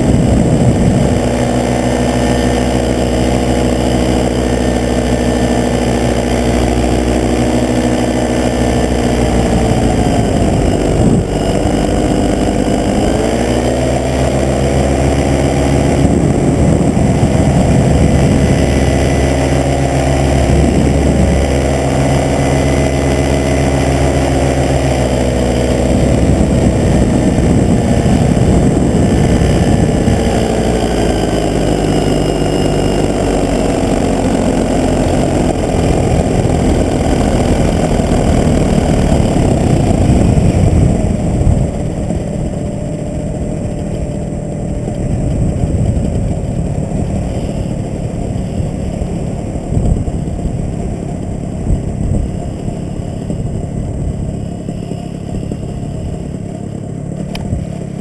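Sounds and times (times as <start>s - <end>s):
paramotor engine and propeller: 0.0s - 58.0s
wind rushing over microphone: 0.0s - 58.0s.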